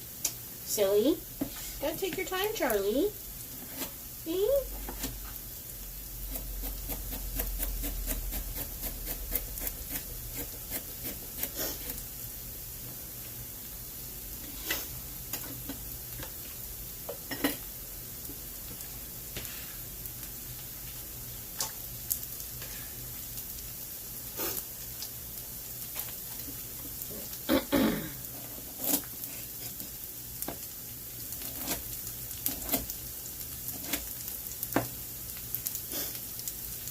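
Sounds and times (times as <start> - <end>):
food sizzling in a pan: 0.0 - 36.9.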